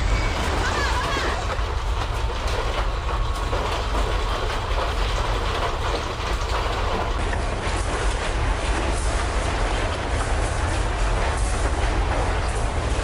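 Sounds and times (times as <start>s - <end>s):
loud continuous rumbling: 0.0s - 13.0s.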